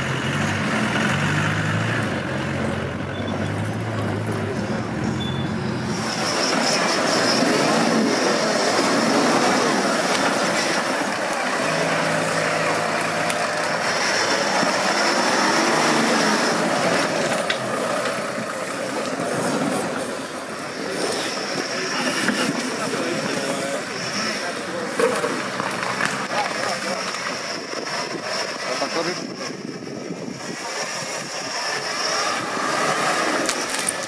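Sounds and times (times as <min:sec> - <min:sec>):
vehicle engine revving: 0:00.0 - 0:34.0.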